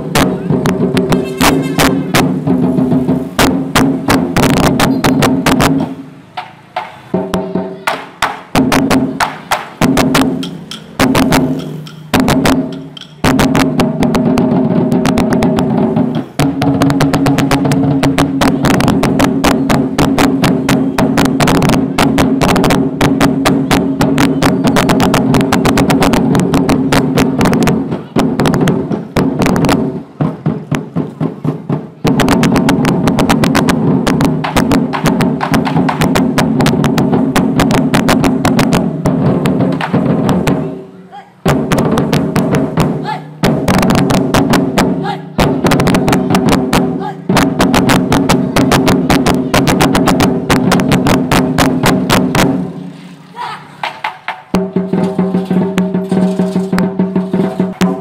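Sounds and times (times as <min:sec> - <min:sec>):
barrel drums beaten with sticks: 0:00.0 - 0:58.0.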